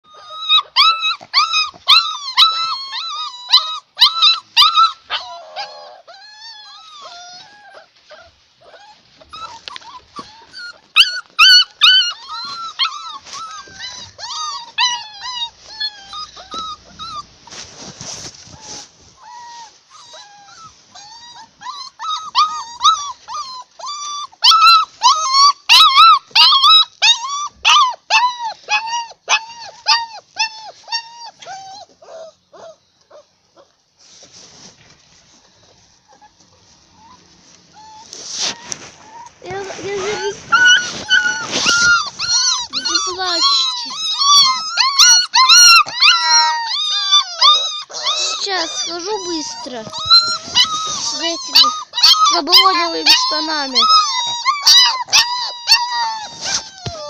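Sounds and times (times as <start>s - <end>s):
dogs whining: 0.0s - 33.7s, 35.3s - 57.0s.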